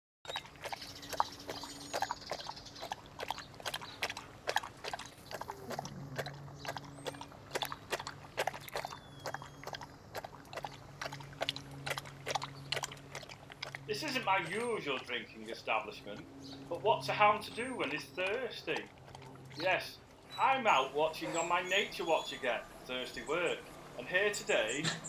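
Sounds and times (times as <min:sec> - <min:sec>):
dog lapping water: 0:00.3 - 0:25.0.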